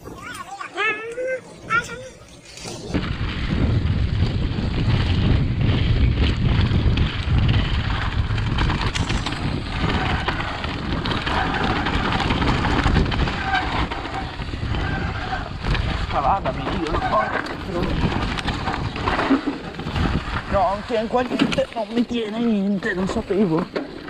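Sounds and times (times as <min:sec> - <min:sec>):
wind buffeting microphone: 0:00.0 - 0:24.0
tyres rumbling over dirt and rocks: 0:02.4 - 0:24.0
bike rattling and knocking: 0:02.6 - 0:24.0.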